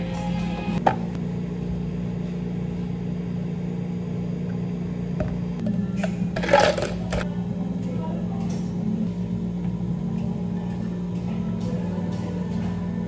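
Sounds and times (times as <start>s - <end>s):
appliance motor hum: 0.0s - 13.0s.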